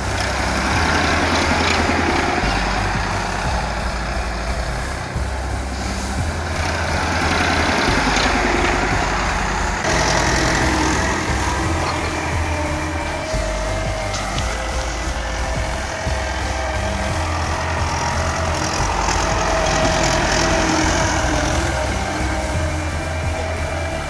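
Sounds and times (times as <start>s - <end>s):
tractor diesel engine running: 0.0s - 24.0s
wheels crushing straw: 0.0s - 24.0s.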